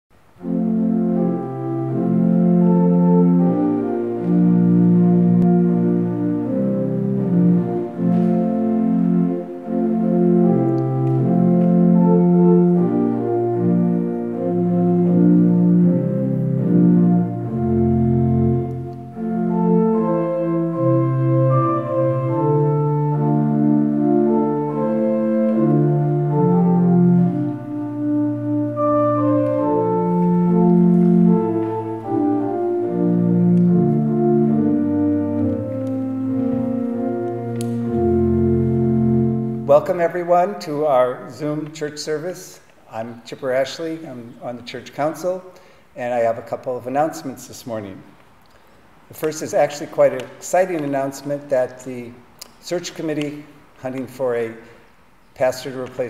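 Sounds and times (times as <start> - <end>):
organ chords: 0.2 - 48.2.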